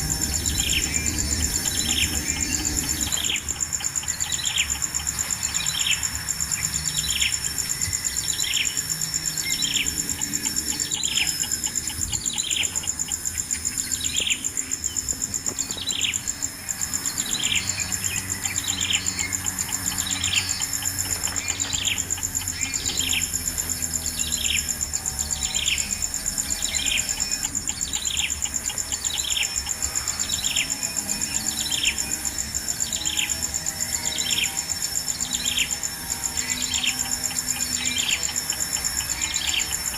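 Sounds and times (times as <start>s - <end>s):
high-pitched insect buzz: 0.0s - 39.9s.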